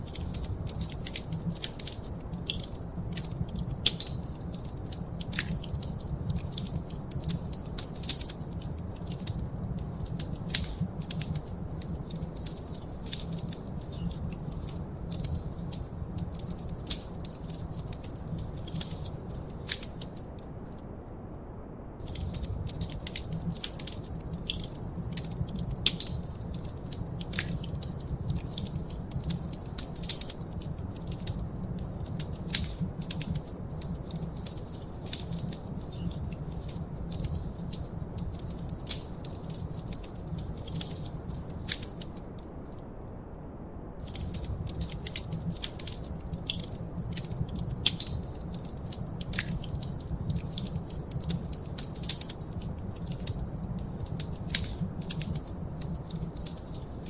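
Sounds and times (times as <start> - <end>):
wood fire crackling and popping: 0.0 - 20.8, 22.0 - 42.8, 44.0 - 57.0
low fire rumble: 0.0 - 57.0.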